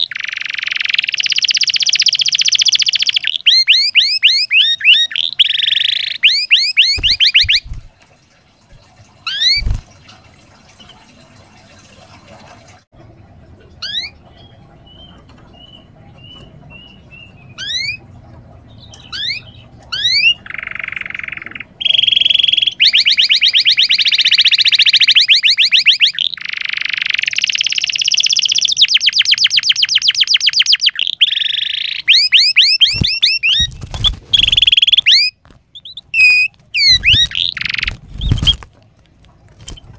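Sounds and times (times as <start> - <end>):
canary singing: 0.0 - 7.9, 9.2 - 9.8, 13.8 - 38.7.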